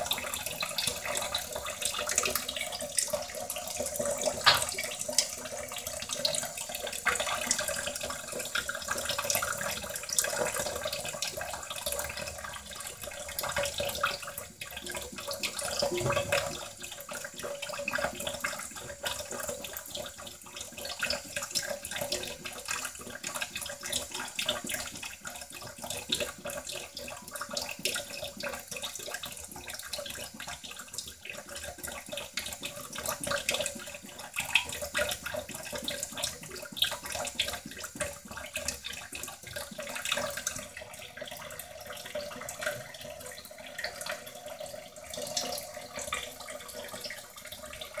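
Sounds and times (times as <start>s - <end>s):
water running and splashing: 0.0s - 48.0s.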